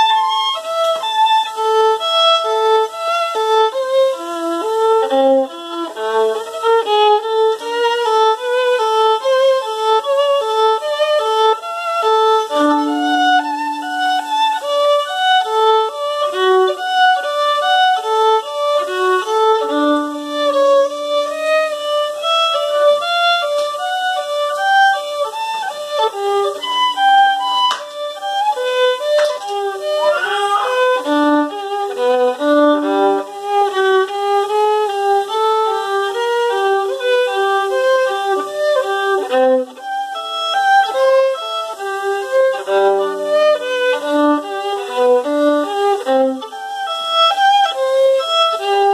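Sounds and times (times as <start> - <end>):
bowed violin melody: 0.0 - 48.9.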